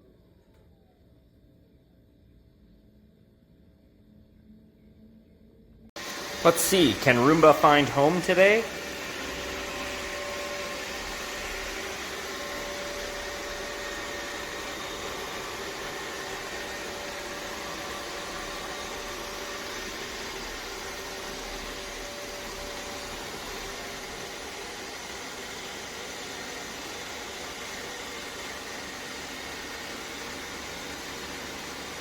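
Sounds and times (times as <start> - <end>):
robot vacuum whirring: 6.0 - 32.0.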